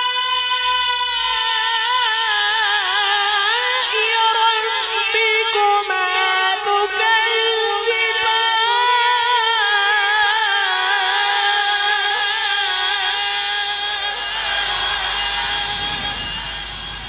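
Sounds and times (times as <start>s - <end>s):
man reciting in long melismatic note: 0.0s - 17.0s.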